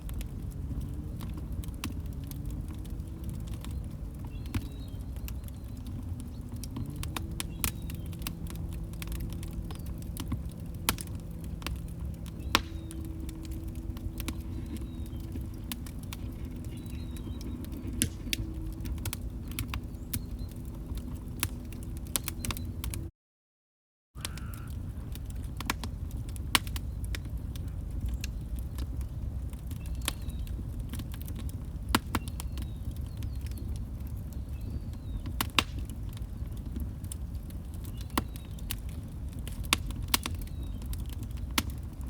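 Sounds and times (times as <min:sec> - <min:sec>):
log fire crackling: 0:00.0 - 0:23.1, 0:24.2 - 0:42.0.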